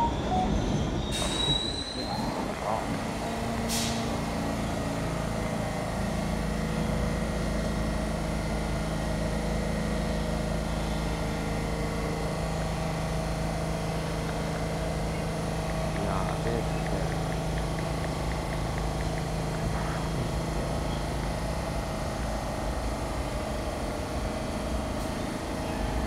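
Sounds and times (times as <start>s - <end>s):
subway train electrical hum: 0.0s - 26.0s.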